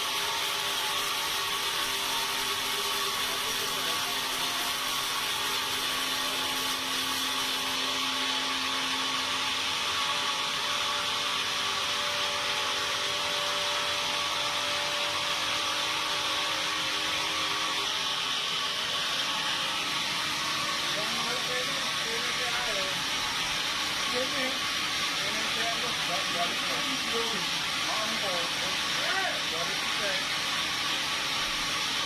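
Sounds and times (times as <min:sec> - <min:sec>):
sawmill saw running: 0:00.0 - 0:32.0.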